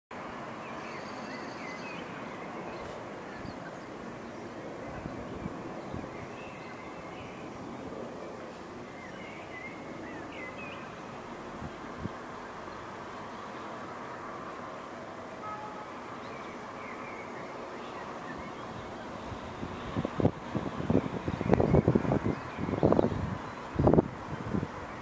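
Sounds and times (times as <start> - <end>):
steady background noise: 0.1 - 25.0
birds chirping: 0.6 - 11.3, 14.8 - 25.0.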